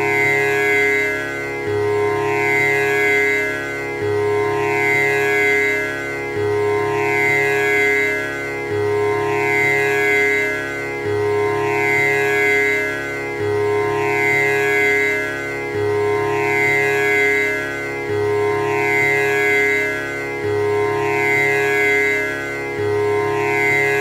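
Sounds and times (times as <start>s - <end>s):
tanpura drone: 0.0s - 24.0s.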